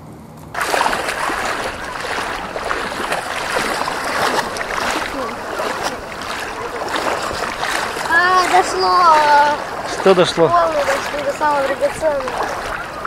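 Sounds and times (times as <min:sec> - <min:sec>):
sea water sloshing around legs: 0:00.5 - 0:13.0.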